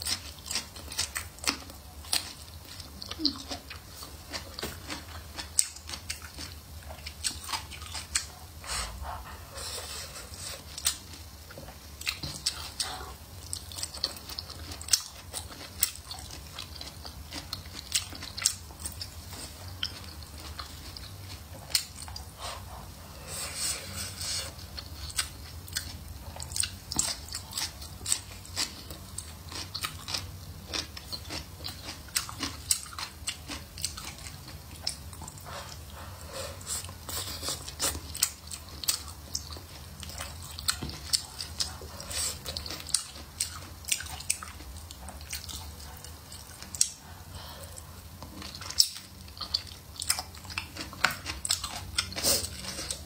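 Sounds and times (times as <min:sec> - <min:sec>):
person chewing with wet smacking: 0:00.0 - 0:53.0.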